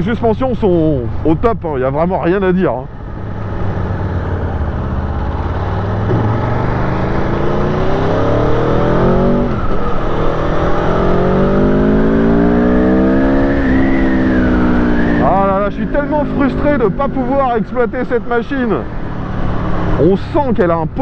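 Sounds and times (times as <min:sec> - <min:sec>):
motorcycle engine accelerating: 0:02.4 - 0:20.4.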